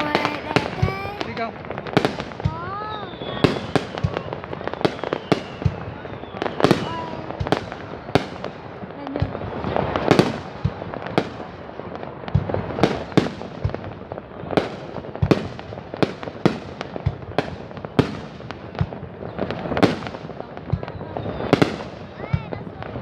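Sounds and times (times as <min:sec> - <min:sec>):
fireworks bangs: 0:00.0 - 0:23.0
fireworks crackle: 0:00.0 - 0:23.0.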